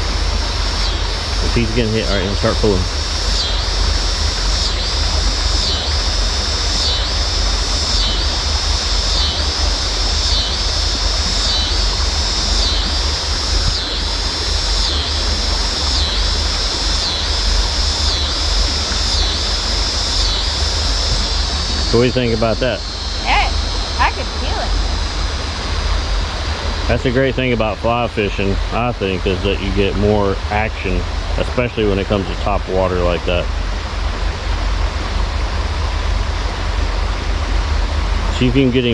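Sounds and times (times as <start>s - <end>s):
insect chorus buzzing: 0.0s - 38.9s
wind rumble on microphone: 0.0s - 38.9s.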